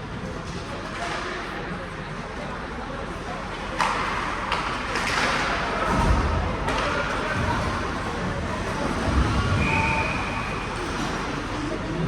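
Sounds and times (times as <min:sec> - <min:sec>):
crowd and player chatter: 0:00.0 - 0:12.0.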